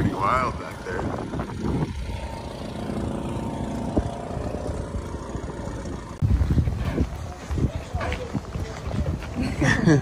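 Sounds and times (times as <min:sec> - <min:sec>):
outboard motor running: 0:00.0 - 0:08.8.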